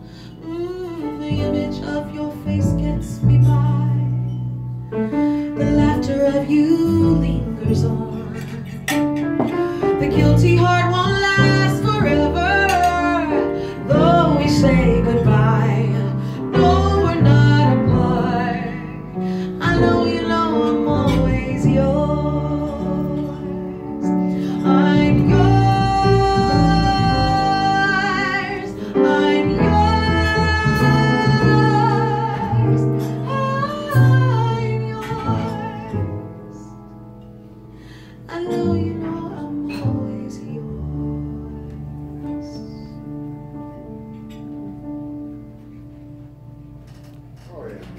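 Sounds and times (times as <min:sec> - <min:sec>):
piano accompaniment: 0:00.0 - 0:47.9
woman singing: 0:00.4 - 0:04.4, 0:05.4 - 0:36.7, 0:38.2 - 0:43.0.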